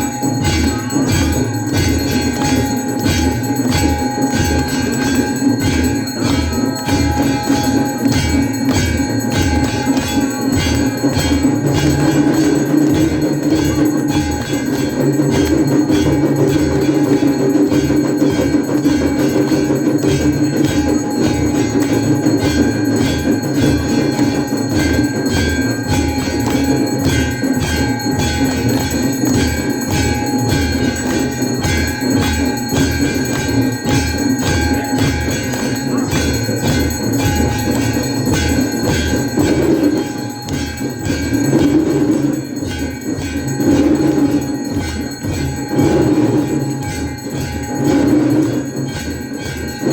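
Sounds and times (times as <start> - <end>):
bells ringing: 0.0 - 49.9.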